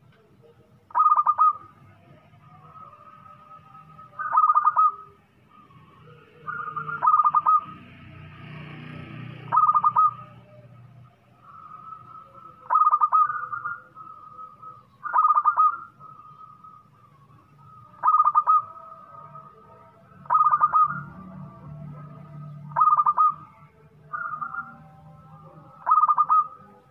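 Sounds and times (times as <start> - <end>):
dove cooing: 0.0 - 1.9, 2.5 - 26.9.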